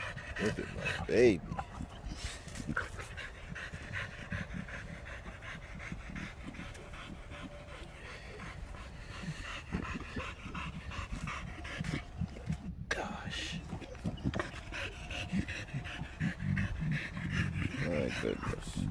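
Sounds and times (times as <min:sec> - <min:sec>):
dog panting: 0:00.0 - 0:18.9.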